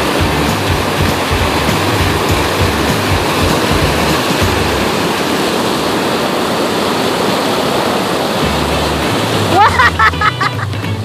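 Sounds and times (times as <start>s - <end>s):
waterfall rushing over boulders: 0.0s - 11.0s.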